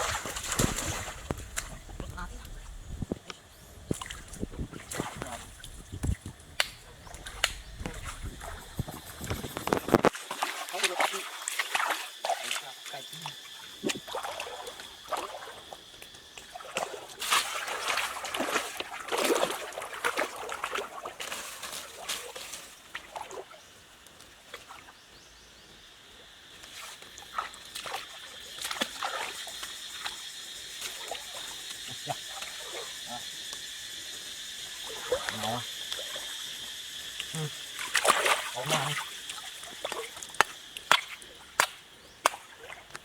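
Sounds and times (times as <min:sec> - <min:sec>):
splashing in shallow water: 0:00.0 - 0:23.6, 0:26.5 - 0:33.5, 0:34.6 - 0:43.0.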